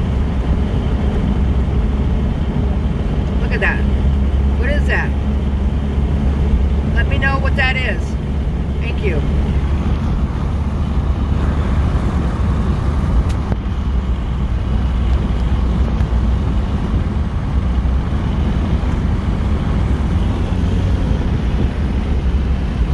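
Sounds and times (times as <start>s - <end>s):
car road and engine noise: 0.0s - 22.9s.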